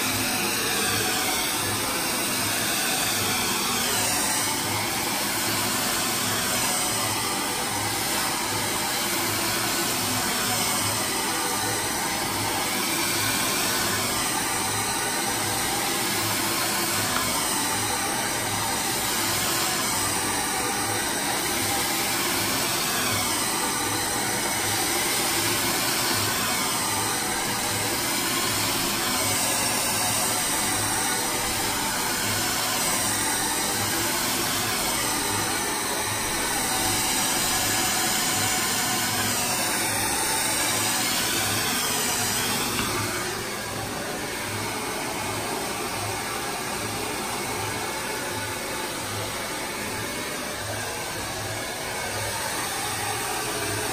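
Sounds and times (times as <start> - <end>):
hair dryer blowing air: 0.0 - 53.9.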